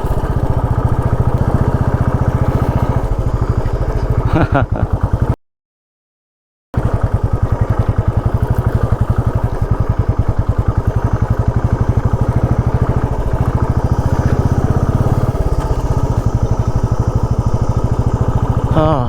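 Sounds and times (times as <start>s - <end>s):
motorcycle engine pulling at low revs: 0.0s - 5.4s, 6.8s - 19.0s.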